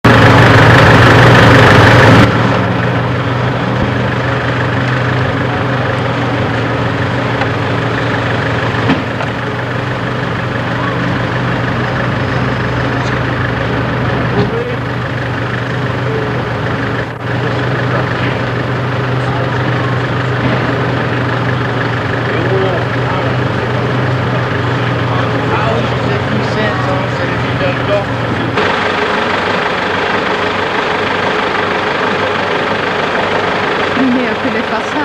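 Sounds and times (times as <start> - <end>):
engine drone: 0.0 - 35.0.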